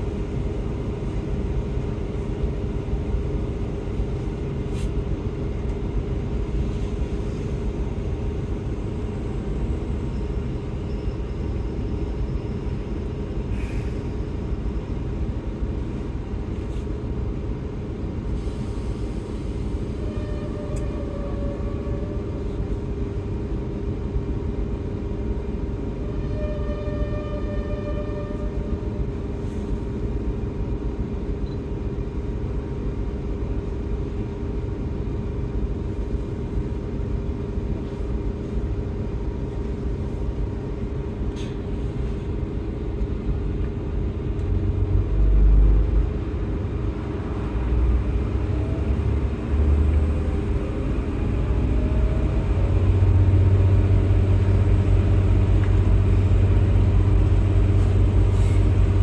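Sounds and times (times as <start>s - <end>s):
constant hum: 0.0s - 59.0s
train wheels rumbling on rail: 0.0s - 59.0s.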